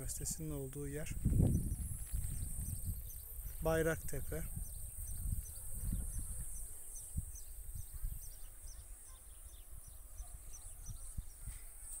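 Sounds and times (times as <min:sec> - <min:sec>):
small bird chirping: 0:00.9 - 0:12.0.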